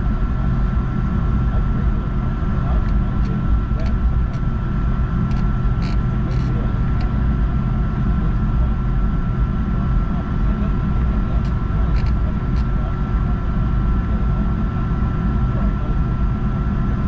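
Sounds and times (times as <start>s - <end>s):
airplane cabin engine rumble: 0.0s - 17.0s
thin steady whine: 0.0s - 17.0s.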